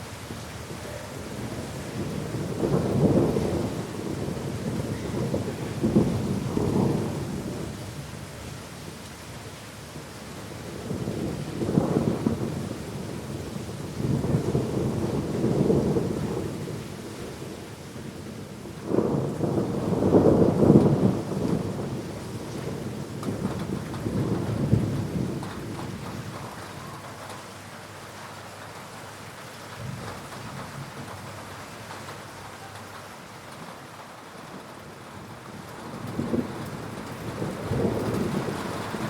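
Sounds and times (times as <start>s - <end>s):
heavy rain: 0.0s - 39.0s
thunder rumbling: 0.6s - 8.1s, 10.4s - 28.0s, 29.7s - 39.0s.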